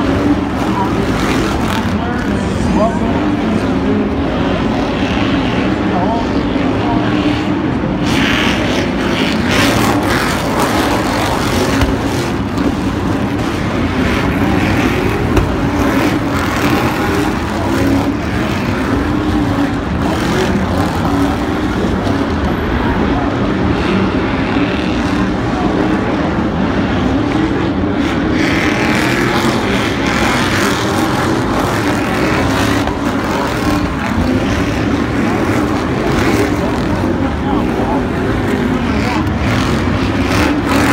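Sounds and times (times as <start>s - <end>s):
truck engines racing: 0.0s - 40.9s.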